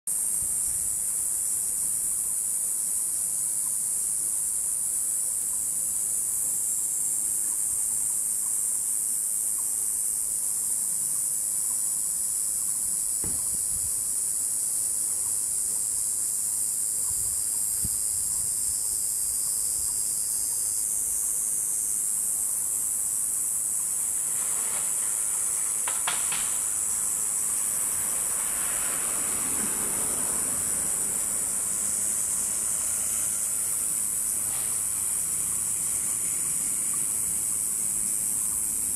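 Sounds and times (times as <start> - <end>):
insect chorus drone: 0.1 - 38.9
rustle: 0.1 - 38.9.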